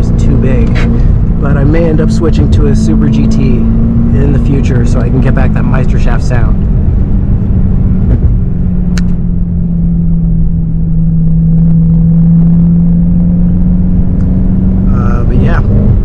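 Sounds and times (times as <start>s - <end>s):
car engine drone: 0.0s - 16.0s
low road rumble: 0.0s - 16.0s.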